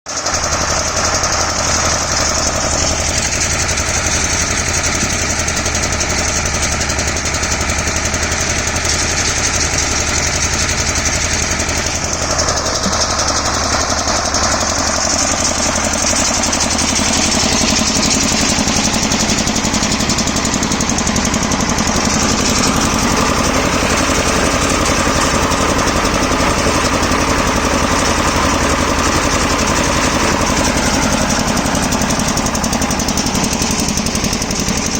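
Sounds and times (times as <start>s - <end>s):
harvester engine droning: 0.1s - 34.9s
mechanical clatter: 0.1s - 34.9s.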